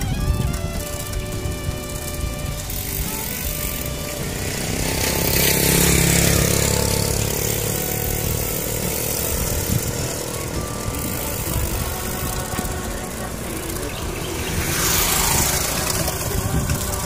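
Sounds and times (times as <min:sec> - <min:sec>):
motorcycle engine passing: 0:00.0 - 0:17.0
wind and road noise: 0:00.0 - 0:17.0.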